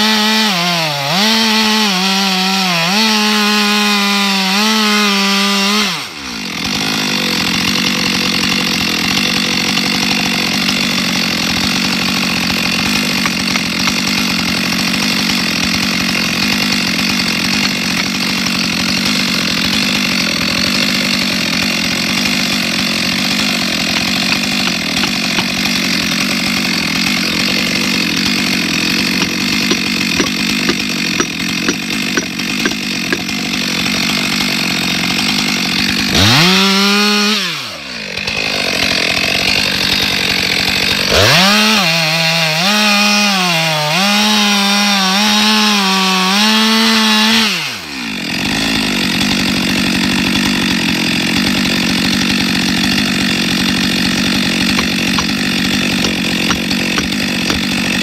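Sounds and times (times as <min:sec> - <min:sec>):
chainsaw cutting log: 0:00.0 - 0:58.0
chainsaw revving unloaded: 0:00.0 - 0:58.0.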